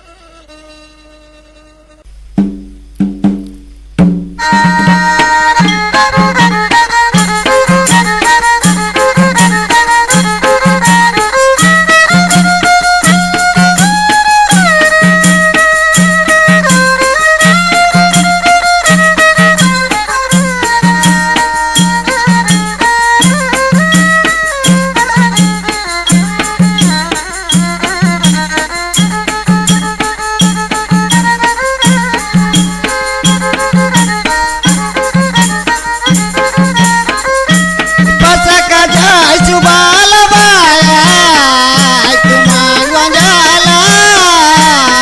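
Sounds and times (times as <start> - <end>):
held lead melody: 0.0 - 45.0
low drum beat: 2.1 - 45.0
rattling percussion: 2.2 - 45.0.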